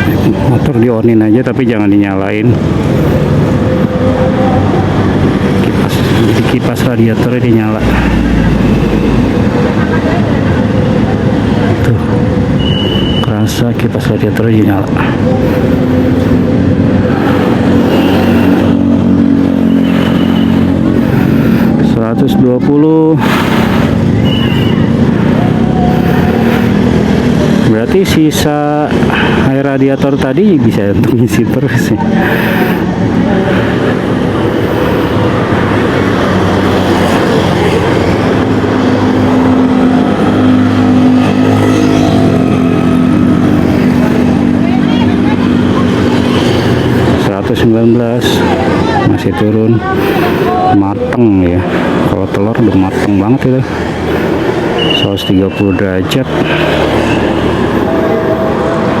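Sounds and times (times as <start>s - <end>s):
motor vehicle running: 0.0s - 59.0s.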